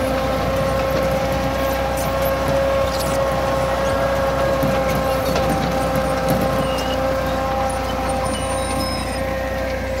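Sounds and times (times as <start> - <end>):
tractor engine humming: 0.0 - 10.0.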